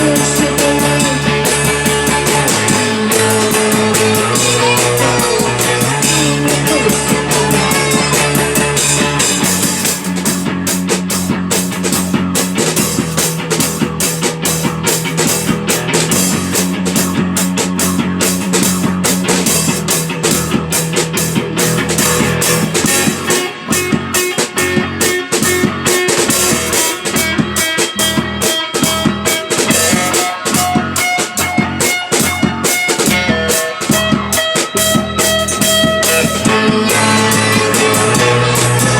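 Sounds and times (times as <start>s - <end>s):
drum kit: 0.0s - 38.9s
electric guitar: 0.0s - 38.9s
held bass notes: 0.0s - 38.9s.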